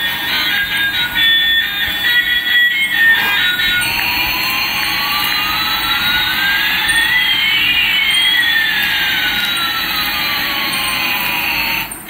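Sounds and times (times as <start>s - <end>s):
toy jet engine sound effect: 0.0s - 12.0s.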